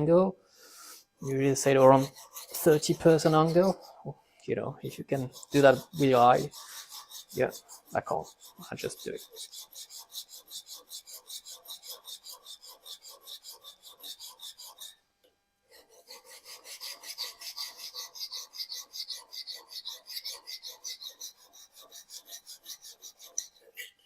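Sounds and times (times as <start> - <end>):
knife scraping on sharpening stone: 1.2 - 4.0, 4.9 - 15.0, 15.8 - 23.9.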